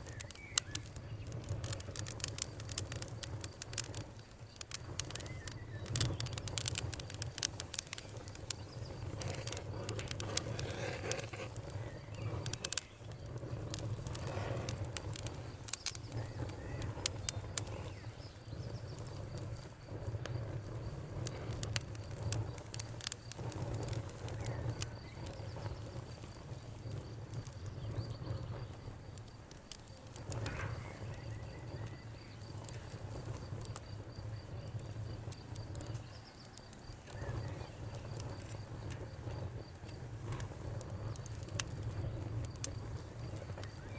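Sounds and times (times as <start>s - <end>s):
cricket trilling: 0.0s - 43.9s
wood fire crackling: 0.0s - 43.9s.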